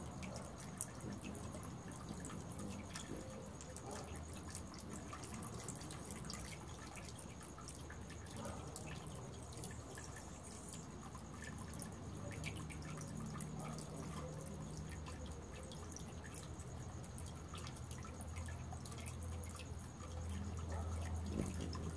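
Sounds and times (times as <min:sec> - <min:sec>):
light ticks like dripping water: 0:00.0 - 0:21.9
low steady hum: 0:00.0 - 0:21.9.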